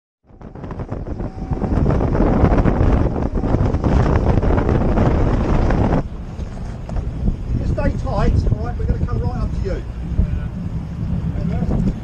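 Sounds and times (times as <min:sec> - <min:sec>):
boat engine: 0:00.2 - 0:12.0
wind buffeting microphone: 0:00.2 - 0:12.0
water rushing past boat: 0:00.3 - 0:12.0.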